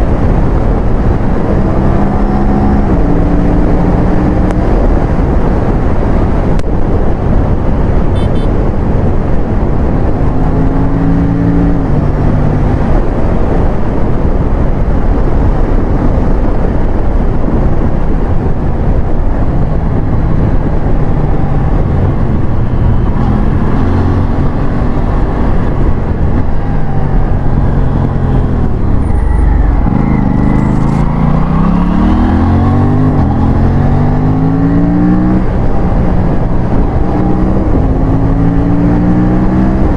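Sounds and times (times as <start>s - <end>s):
motorcycle engine accelerating: 0.0s - 6.7s, 7.6s - 16.4s, 17.6s - 39.9s
dense rushing noise: 0.0s - 39.9s.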